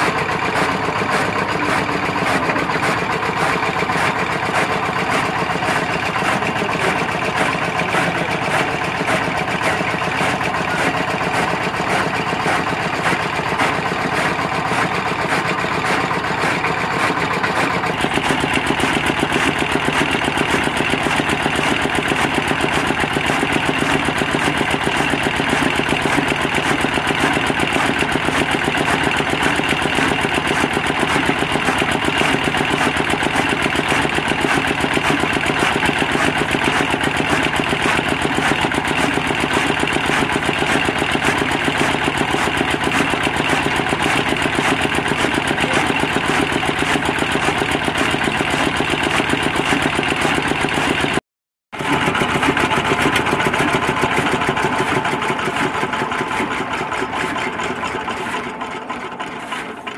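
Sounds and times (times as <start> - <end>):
diesel engine running: 0.0 - 51.2, 51.8 - 59.9
chaff cutter chopping fodder: 0.0 - 59.9.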